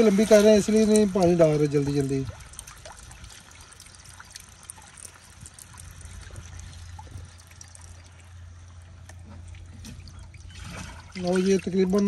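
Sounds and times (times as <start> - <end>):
water pouring into a tank: 0.0 - 12.0.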